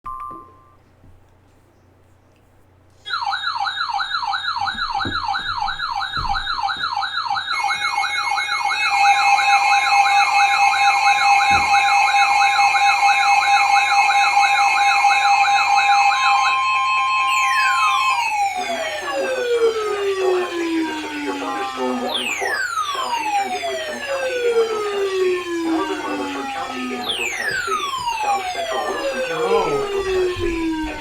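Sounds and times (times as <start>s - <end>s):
electronic wailing siren: 3.1s - 31.0s
steady alarm tones: 3.1s - 31.0s.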